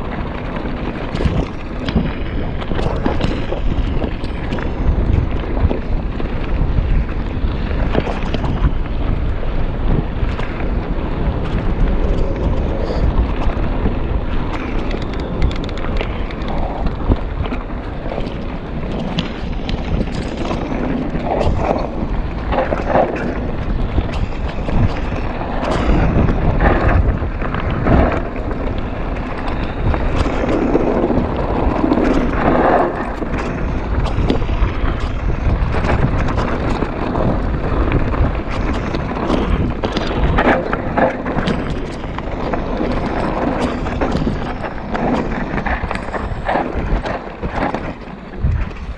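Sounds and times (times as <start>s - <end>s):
wind rumbling on microphone: 0.0s - 48.9s.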